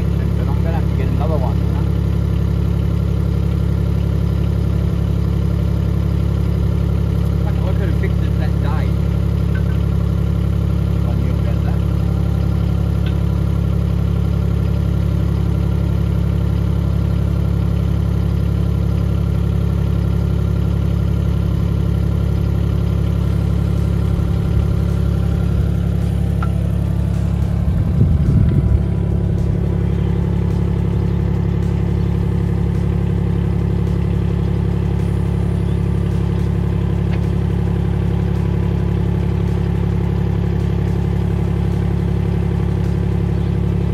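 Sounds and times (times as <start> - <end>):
excavator engine idling: 0.0 - 43.9.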